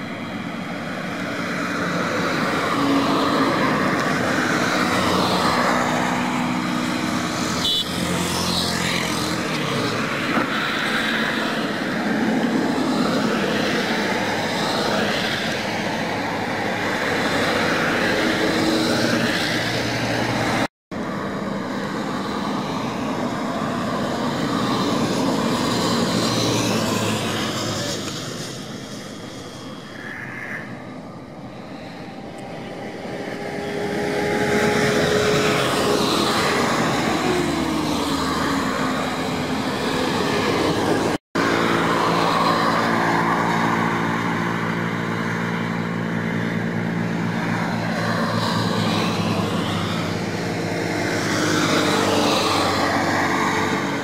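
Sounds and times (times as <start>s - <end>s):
highway traffic passing: 0.0s - 54.0s.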